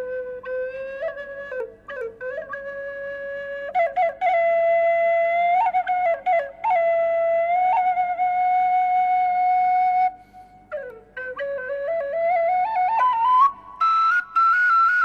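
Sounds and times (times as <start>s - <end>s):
bamboo flute melody: 0.0s - 15.0s.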